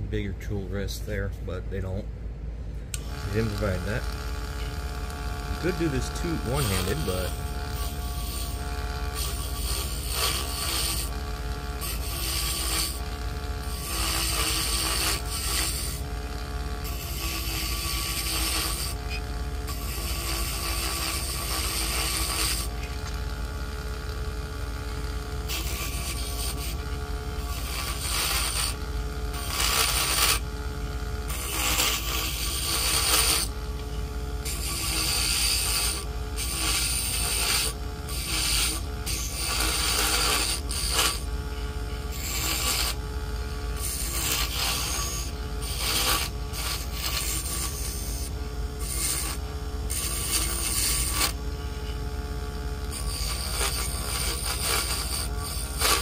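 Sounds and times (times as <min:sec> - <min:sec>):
lathe motor running: 0:02.9 - 0:56.0
chisel scraping spinning wood: 0:03.0 - 0:56.0.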